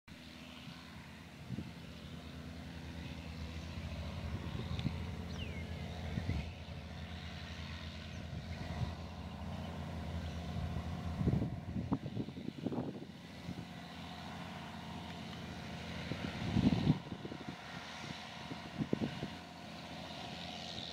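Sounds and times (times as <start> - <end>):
diesel engine running: 0.1 - 20.9.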